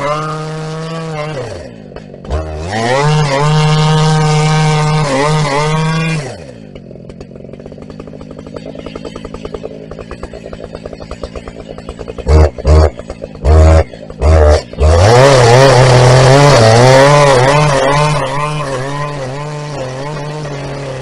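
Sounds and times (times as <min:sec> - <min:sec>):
chainsaw revving and idling: 0:00.0 - 0:21.0.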